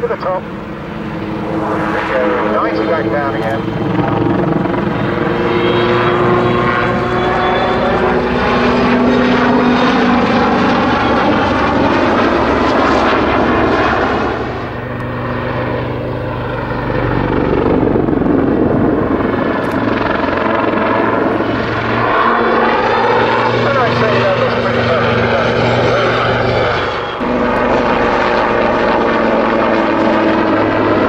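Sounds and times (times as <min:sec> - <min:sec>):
helicopter rotor and engines: 0:00.0 - 0:31.0.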